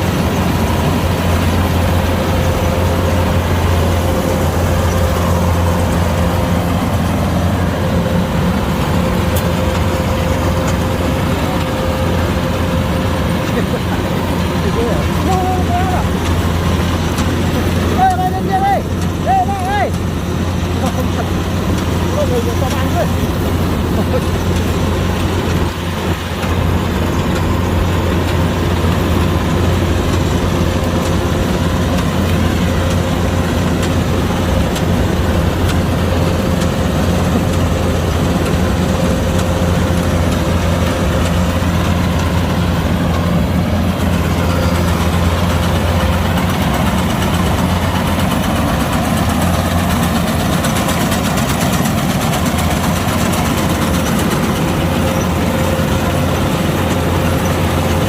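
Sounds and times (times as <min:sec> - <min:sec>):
diesel engine hum: 0:00.0 - 0:58.0
machinery whine: 0:00.0 - 0:58.0.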